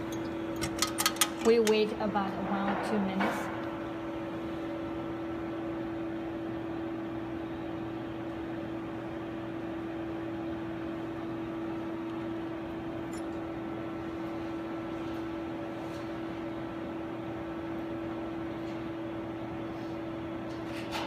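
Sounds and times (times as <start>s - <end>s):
laboratory equipment humming: 0.0s - 21.0s.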